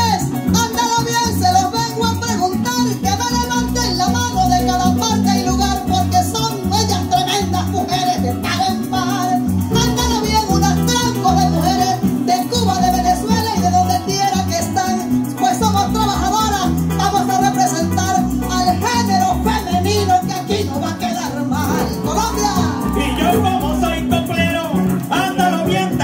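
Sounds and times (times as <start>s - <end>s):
bass line: 0.0s - 26.0s
shaker rhythm: 0.0s - 26.0s.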